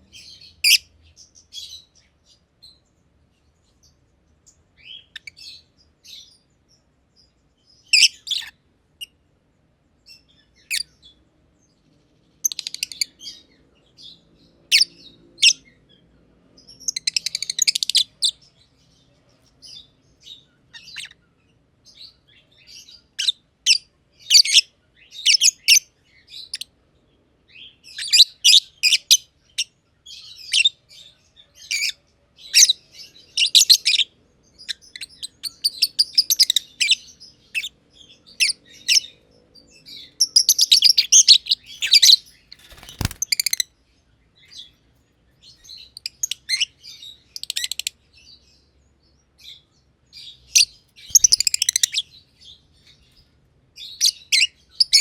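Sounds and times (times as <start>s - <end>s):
lovebirds chirping: 0.0s - 9.1s, 10.0s - 16.0s, 16.6s - 26.7s, 27.5s - 55.0s.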